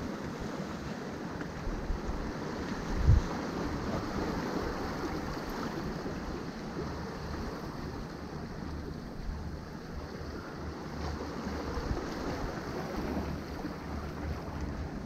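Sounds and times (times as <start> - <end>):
wind buffeting microphone: 1.6 - 15.0.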